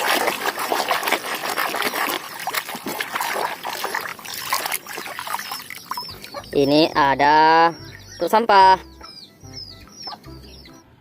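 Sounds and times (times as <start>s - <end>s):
water splashing and sloshing: 0.0s - 8.8s.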